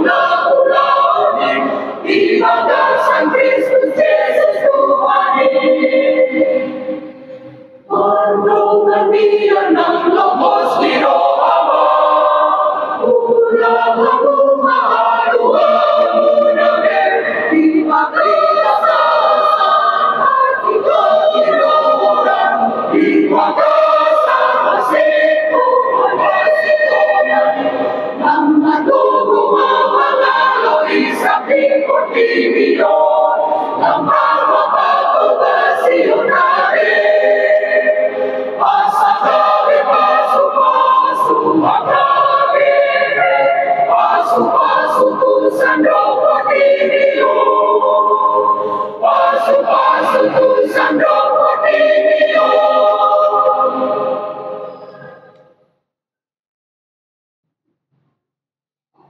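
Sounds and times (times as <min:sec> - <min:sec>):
mixed choir singing: 0:00.0 - 0:55.6.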